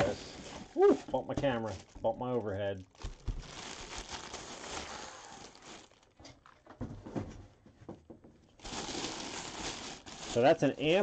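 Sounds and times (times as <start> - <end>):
plastic bag crinkling: 0.0 - 6.7, 8.6 - 11.0.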